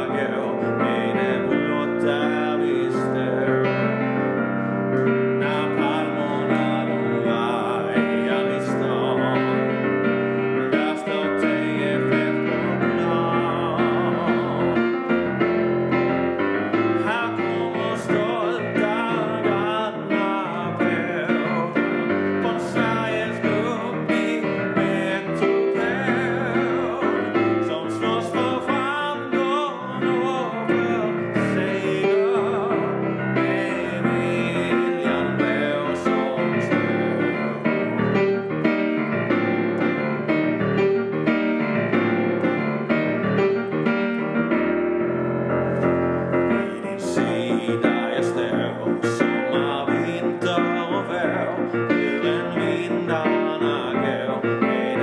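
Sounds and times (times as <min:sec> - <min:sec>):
man singing a hymn: 0:00.0 - 0:38.4, 0:45.8 - 0:55.0
piano: 0:00.0 - 0:55.0.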